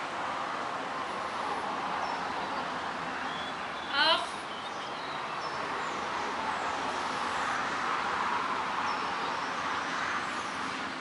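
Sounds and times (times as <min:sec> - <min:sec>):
road vehicle passing: 0:00.0 - 0:11.0.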